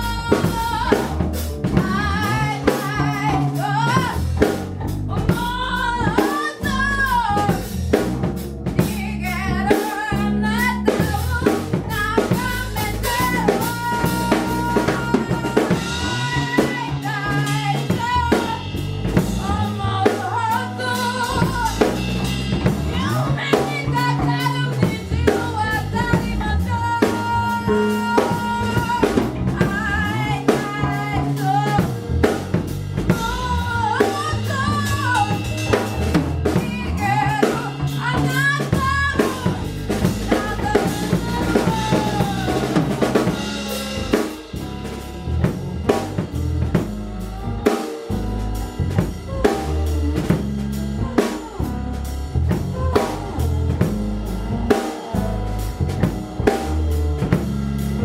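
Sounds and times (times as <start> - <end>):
drum kit beat: 0.0 - 58.0
held bass notes: 0.0 - 58.0.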